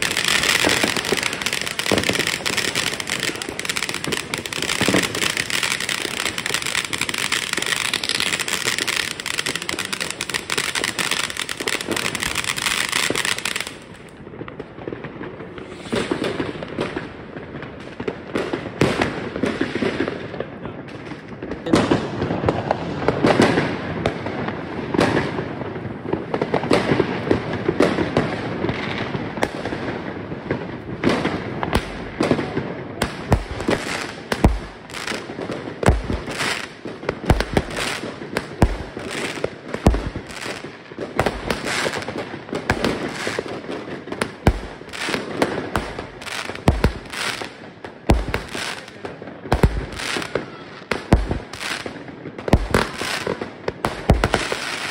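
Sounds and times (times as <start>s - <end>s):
deep fireworks booms: 0.0s - 54.9s
fireworks bangs and crackling: 0.0s - 54.9s.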